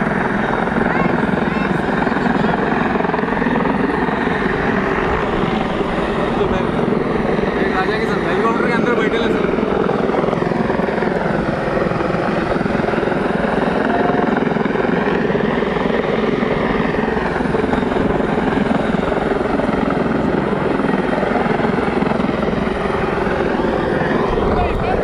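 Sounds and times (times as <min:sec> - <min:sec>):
helicopter flying overhead: 0:00.0 - 0:25.0.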